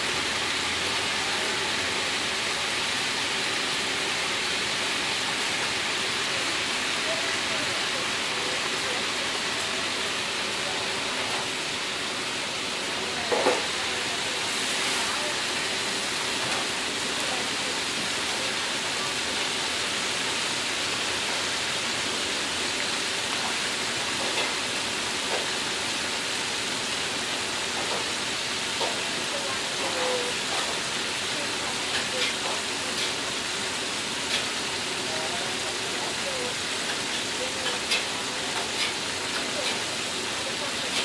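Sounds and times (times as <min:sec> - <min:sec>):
oil sizzling in a wok: 0:00.0 - 0:41.0.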